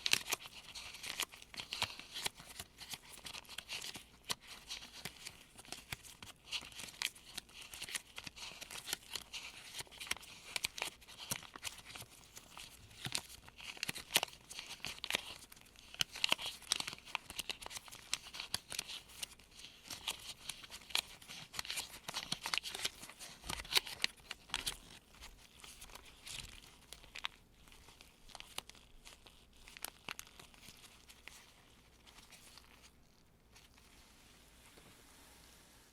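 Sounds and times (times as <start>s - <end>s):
paper bills crinkling and rustling: 0.0s - 34.0s.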